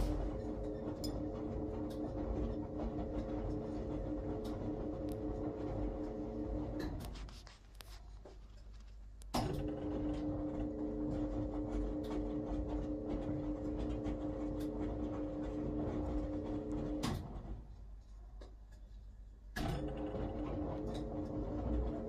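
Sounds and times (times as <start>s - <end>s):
washing machine motor humming: 0.0s - 7.5s, 9.3s - 17.7s, 19.6s - 22.0s.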